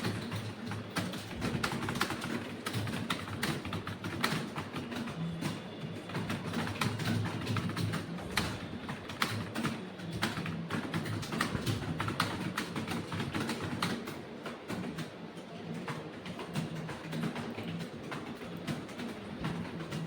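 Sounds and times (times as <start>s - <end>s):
computer keyboard typing: 0.0s - 20.0s.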